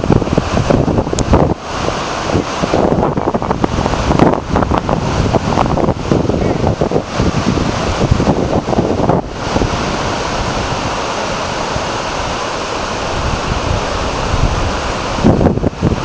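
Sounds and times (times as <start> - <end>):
floodwater rushing: 0.0 - 16.0
wind buffeting microphone: 0.0 - 16.0.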